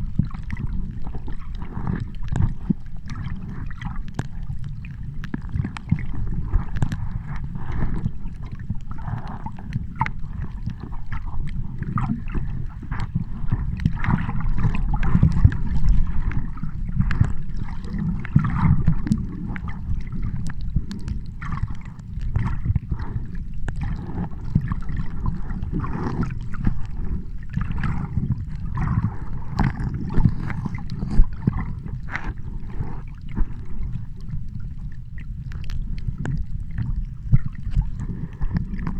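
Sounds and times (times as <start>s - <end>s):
small clicks and splashes: 0.0s - 38.9s
water sloshing and gurgling: 0.0s - 38.9s.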